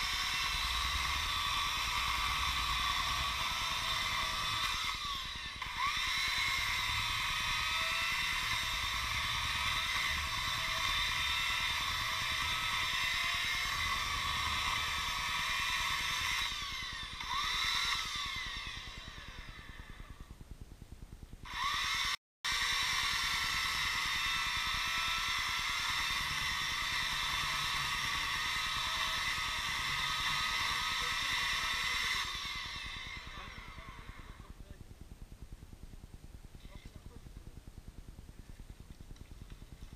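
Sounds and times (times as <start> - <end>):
chainsaw cutting wood: 0.0 - 20.1, 21.4 - 34.5.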